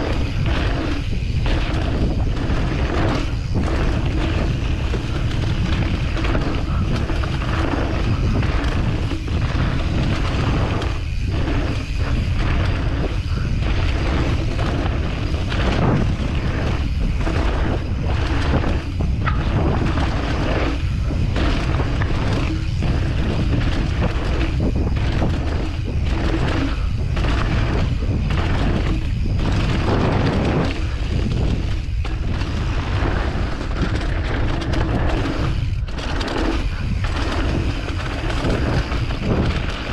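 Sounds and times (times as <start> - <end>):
bike bumps and rattles: 0.0 - 39.9
bike tyres on dirt trail: 0.0 - 39.9
wind rumbling on microphone: 0.0 - 39.9.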